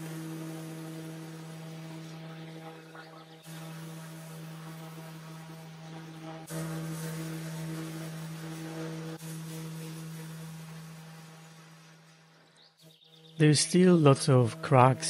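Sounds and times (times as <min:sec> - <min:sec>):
orbital sander on wood: 0:00.0 - 0:15.0.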